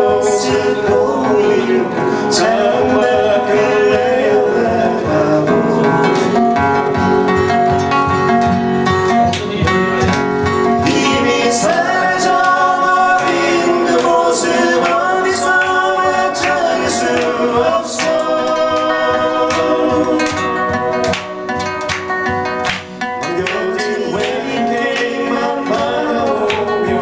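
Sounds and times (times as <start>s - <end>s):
men singing into microphones: 0.0s - 6.7s, 10.5s - 27.0s
acoustic guitars playing: 0.0s - 27.0s.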